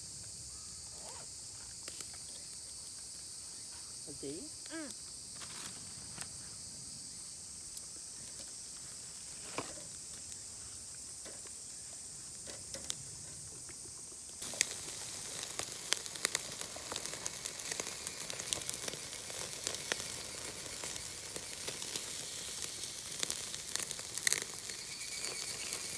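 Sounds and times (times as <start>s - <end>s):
insects chirping: 0.0s - 25.9s
food sizzling on a grill: 0.9s - 25.9s.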